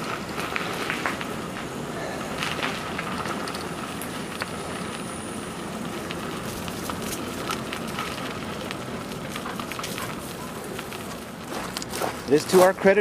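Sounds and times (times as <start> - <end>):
bicycle clicks and rattles: 0.0 - 5.2, 5.8 - 13.0
bicycle rolling on rough trail: 0.0 - 13.0.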